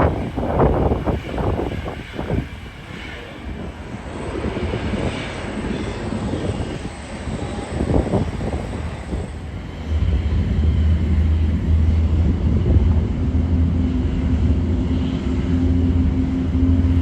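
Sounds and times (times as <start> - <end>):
jet airliner engine rushing: 0.0 - 17.0.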